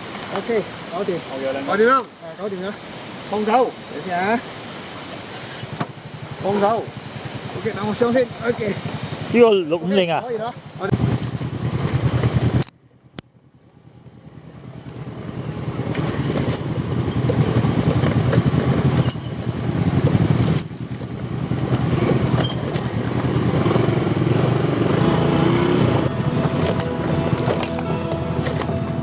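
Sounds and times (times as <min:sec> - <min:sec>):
motorcycle engine running hard: 0:05.5 - 0:29.0.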